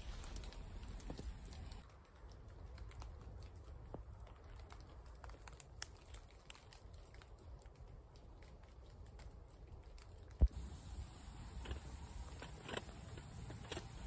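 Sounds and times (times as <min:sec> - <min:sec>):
light ticks and patters: 0:00.0 - 0:14.0
low wind rumble: 0:00.0 - 0:14.0.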